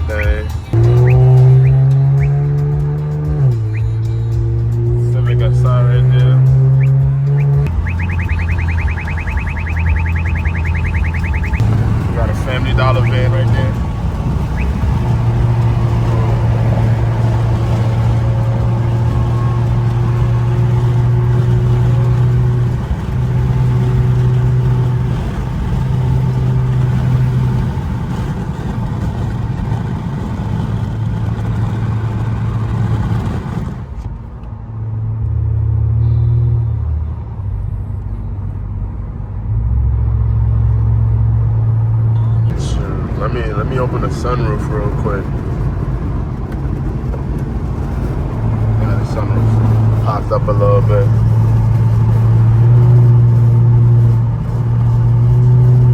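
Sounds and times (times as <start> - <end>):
car exhaust droning: 0.0 - 55.9.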